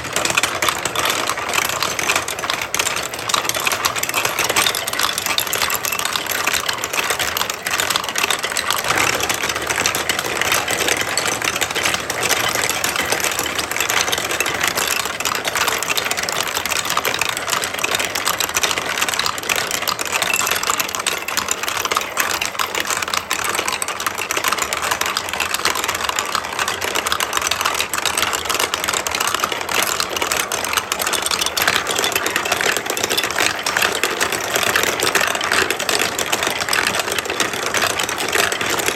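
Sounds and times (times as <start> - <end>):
marbles rattling down plastic tracks: 0.0 - 38.9.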